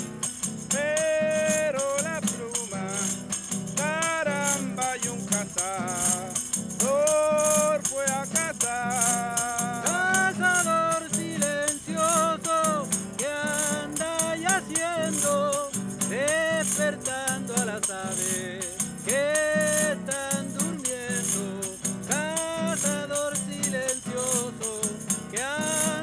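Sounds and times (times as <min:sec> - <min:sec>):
acoustic guitar: 0:00.0 - 0:26.0
men singing: 0:00.0 - 0:26.0
wooden hand rattle shaken: 0:00.0 - 0:26.0.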